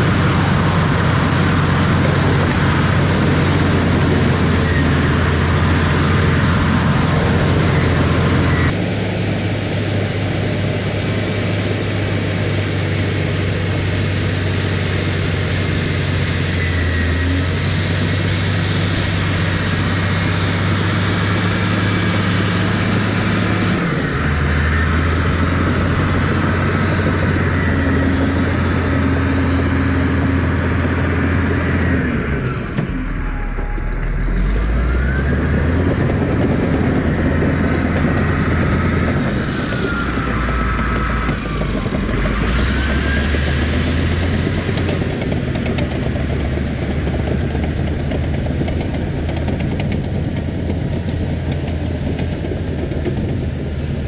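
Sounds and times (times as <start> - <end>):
heavy machine engine under load: 0.0 - 54.0.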